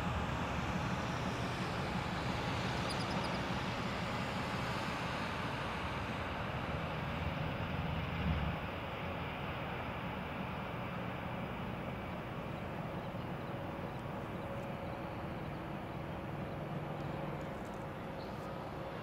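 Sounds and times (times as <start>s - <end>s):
locomotive engine hum: 0.0s - 19.0s.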